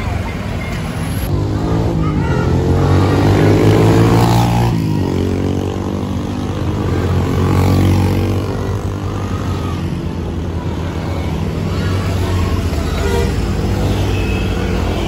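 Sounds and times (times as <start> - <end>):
motorcycles passing: 0.0 - 15.0.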